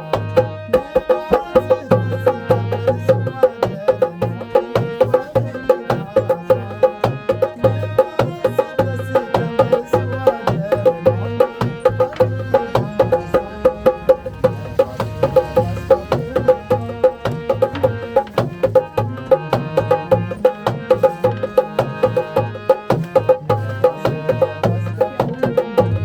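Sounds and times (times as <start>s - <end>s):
hand drums beating: 0.0s - 26.0s
sustained melody instruments: 0.0s - 26.0s.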